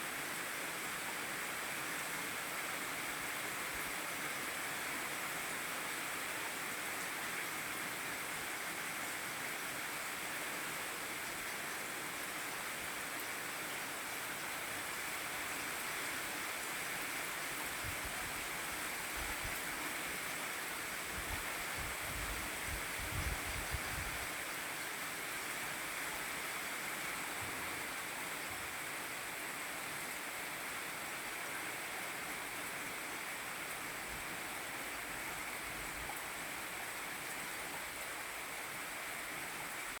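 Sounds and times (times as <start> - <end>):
rain falling: 0.2 - 40.0.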